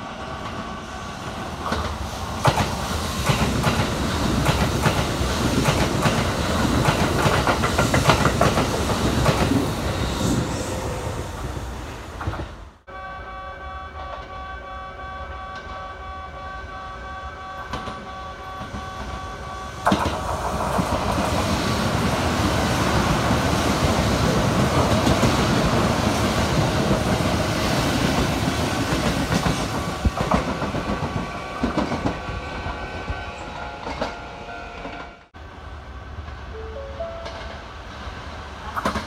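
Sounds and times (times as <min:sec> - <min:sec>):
train rushing past: 0:00.0 - 0:12.9, 0:15.6 - 0:39.0.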